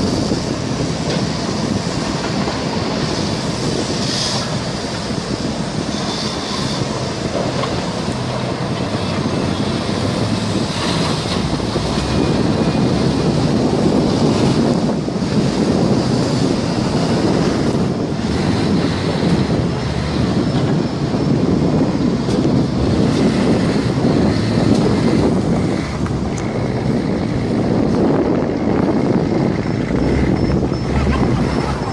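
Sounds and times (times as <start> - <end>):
wind on microphone: 0.0 - 31.9.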